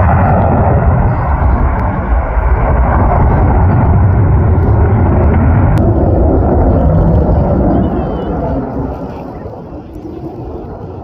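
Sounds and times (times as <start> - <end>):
airplane engines rumbling: 0.0 - 11.0.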